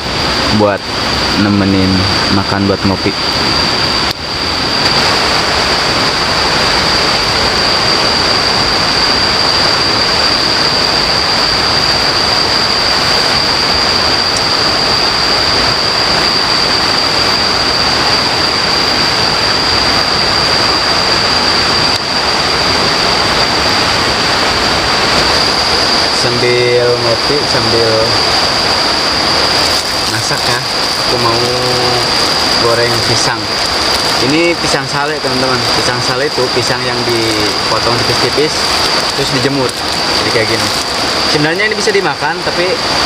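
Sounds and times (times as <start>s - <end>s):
high-pitched whine: 0.0s - 43.0s
river water rushing: 0.0s - 43.0s.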